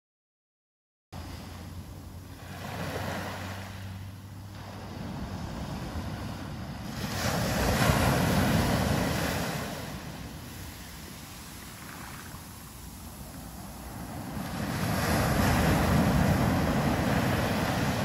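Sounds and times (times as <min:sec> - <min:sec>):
small waves on a sandy beach: 0:01.2 - 0:18.0.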